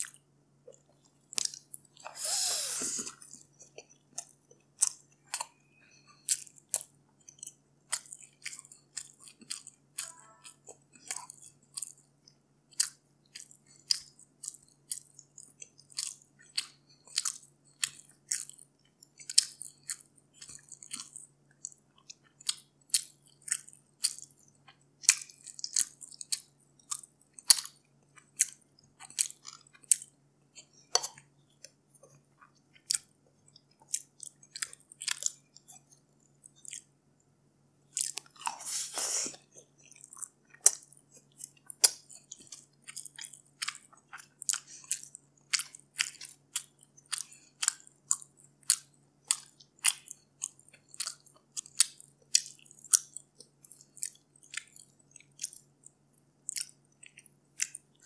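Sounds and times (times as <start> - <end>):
chewing: 0.0 - 37.0, 37.9 - 58.0.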